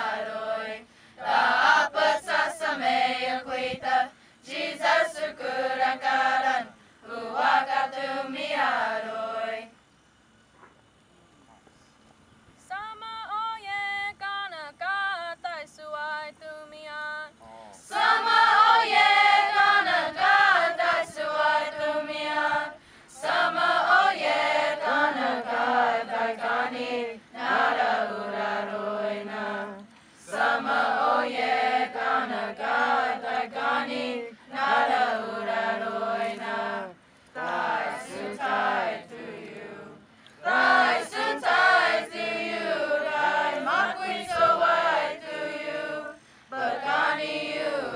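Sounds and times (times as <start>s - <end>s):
choir singing a hymn unaccompanied: 0.0s - 9.8s, 17.8s - 47.9s.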